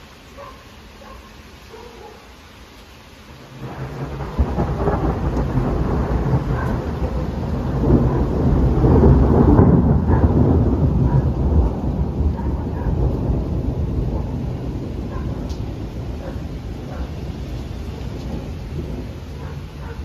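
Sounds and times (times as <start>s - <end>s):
falling rain: 0.0s - 20.0s
thunder rolling: 3.6s - 20.0s.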